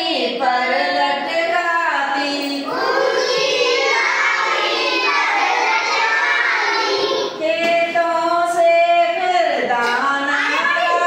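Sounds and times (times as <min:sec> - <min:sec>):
children chanting in sing-song: 0:00.0 - 0:11.0.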